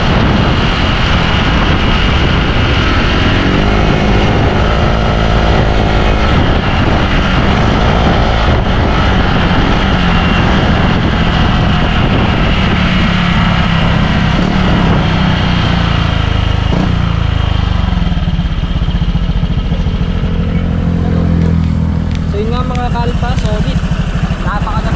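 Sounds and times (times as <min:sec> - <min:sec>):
scooter engine running: 0:00.0 - 0:24.9.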